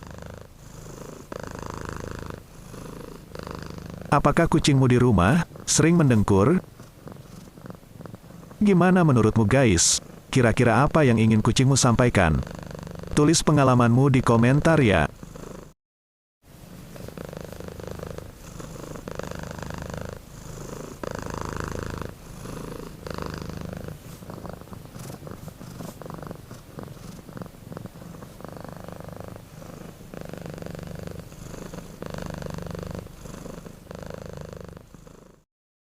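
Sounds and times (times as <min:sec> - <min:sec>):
cat purring: 0:00.0 - 0:15.8, 0:16.5 - 0:35.5.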